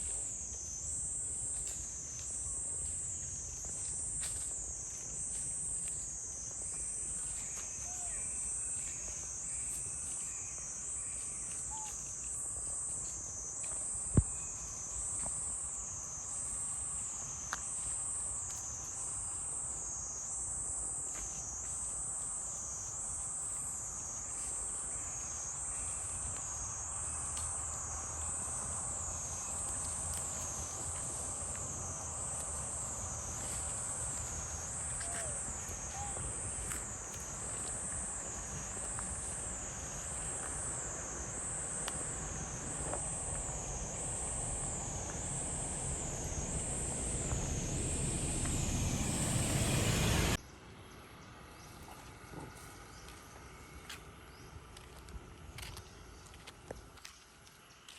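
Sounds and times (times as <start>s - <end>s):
insect chorus buzzing: 0.0s - 50.4s.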